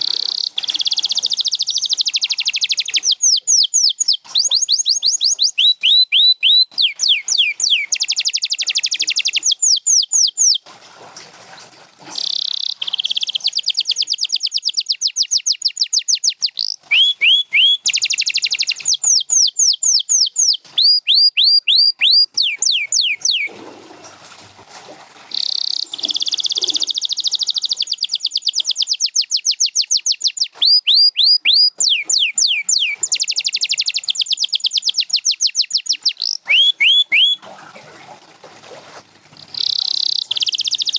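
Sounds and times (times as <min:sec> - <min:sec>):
canary singing: 0:00.0 - 0:10.6, 0:12.2 - 0:23.5, 0:25.4 - 0:37.4, 0:39.4 - 0:40.9.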